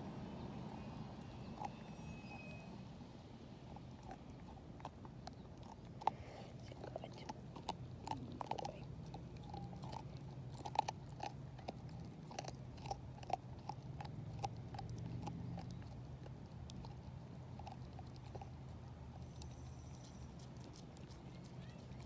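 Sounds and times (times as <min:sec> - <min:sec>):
dog gnawing a bone: 0:00.5 - 0:22.0
teeth clicking on bone: 0:01.2 - 0:02.8, 0:03.7 - 0:22.0.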